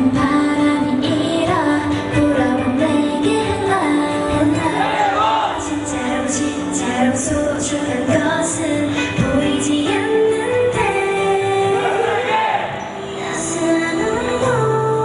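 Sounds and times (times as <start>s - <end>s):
pop dance song with female vocals: 0.0s - 15.0s.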